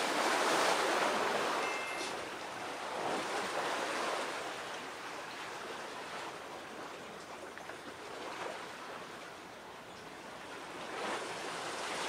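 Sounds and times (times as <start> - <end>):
sea waves washing ashore: 0.0 - 12.0.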